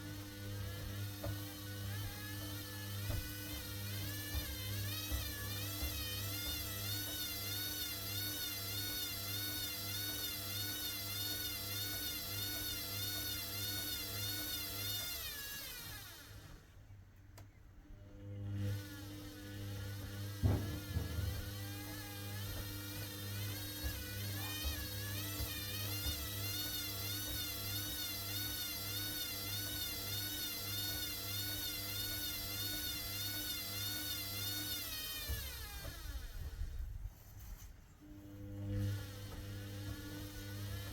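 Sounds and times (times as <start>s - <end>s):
washing machine spin whine: 0.0s - 16.9s, 17.8s - 37.2s, 38.0s - 40.9s.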